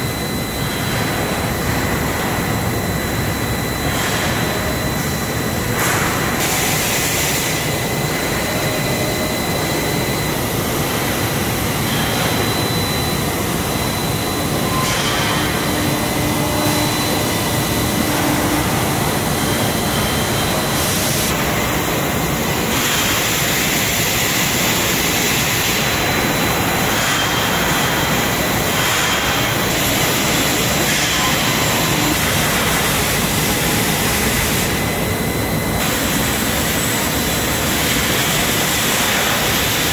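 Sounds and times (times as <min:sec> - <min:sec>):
industrial machinery din: 0:00.0 - 0:39.9
thin high whine: 0:00.0 - 0:39.9.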